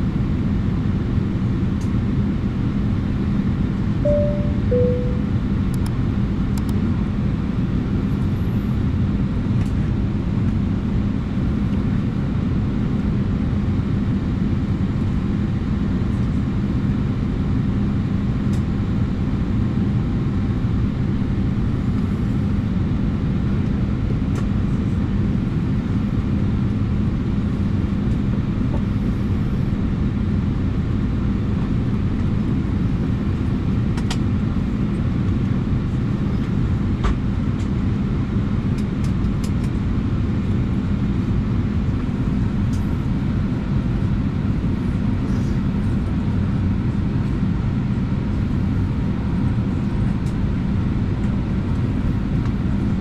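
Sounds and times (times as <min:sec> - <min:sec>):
ventilation air rush with hum: 0:00.0 - 0:53.0.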